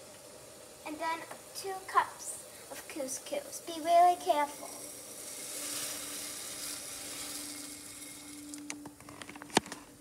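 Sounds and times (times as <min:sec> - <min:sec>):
grains pouring into boiling water: 0:00.0 - 0:09.0
faint steady hum: 0:00.0 - 0:10.0.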